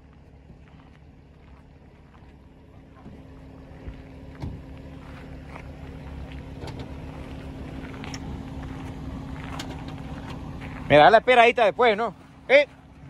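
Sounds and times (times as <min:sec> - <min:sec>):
pickup truck engines running: 0:00.0 - 0:13.0.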